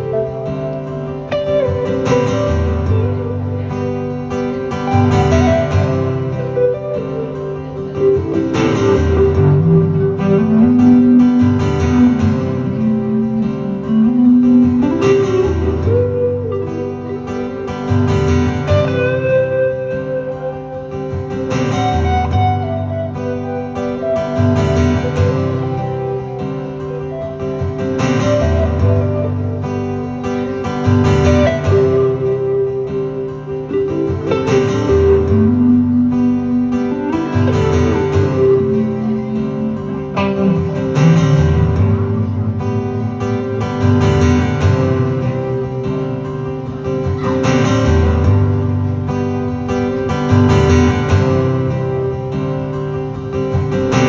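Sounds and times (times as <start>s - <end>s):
clean electric guitar: 0.0s - 54.0s.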